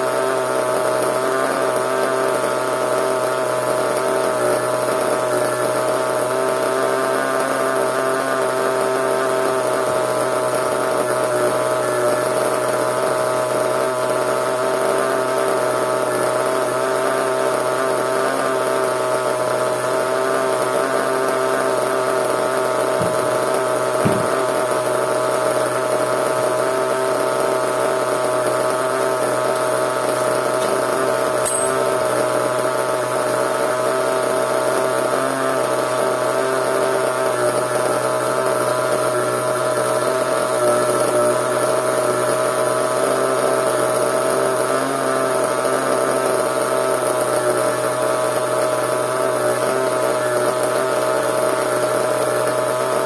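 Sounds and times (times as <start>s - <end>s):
small glow engine idling: 0.0s - 53.0s.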